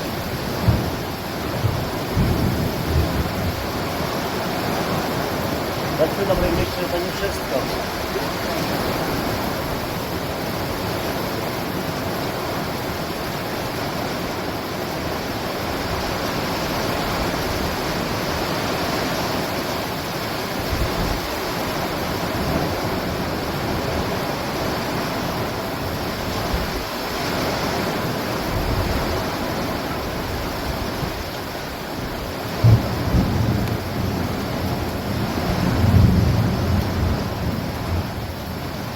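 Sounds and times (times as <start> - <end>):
heavy rain downpour: 0.0 - 38.9.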